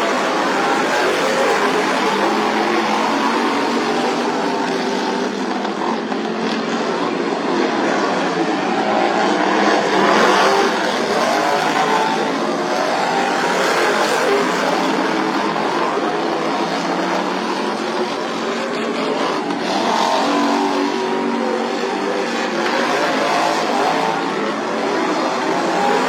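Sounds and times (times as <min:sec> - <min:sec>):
small engines racing at high revs: 0:00.0 - 0:26.0.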